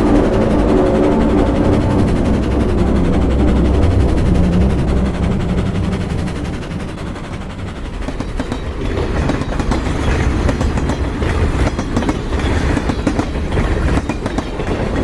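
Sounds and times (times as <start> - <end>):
loud deep train rumble: 0.0 - 15.0.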